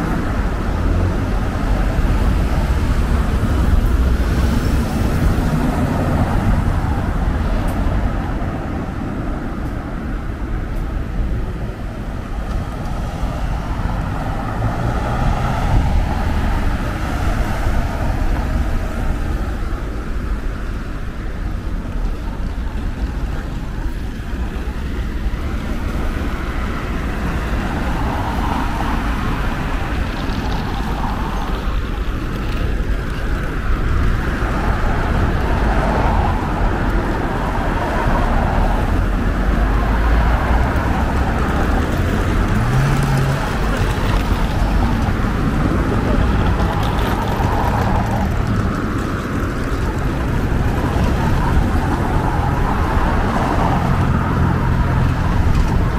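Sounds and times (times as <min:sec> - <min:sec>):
cars passing: 0:00.0 - 0:55.9.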